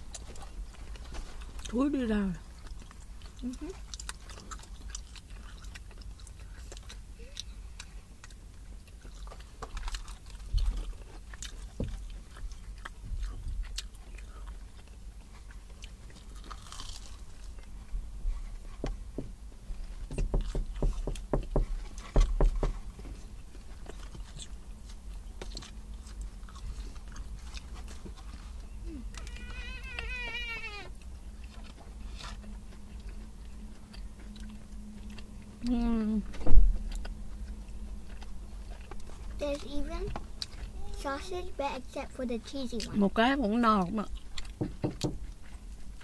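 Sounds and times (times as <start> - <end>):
crunchy biting and chewing: 0.0 - 1.8, 2.4 - 19.1, 22.8 - 41.0, 44.1 - 46.0.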